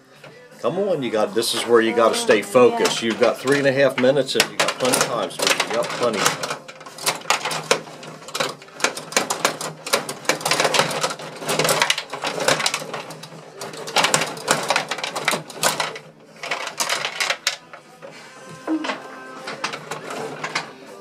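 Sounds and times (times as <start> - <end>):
table hockey rods and players clattering: 0.0 - 21.0.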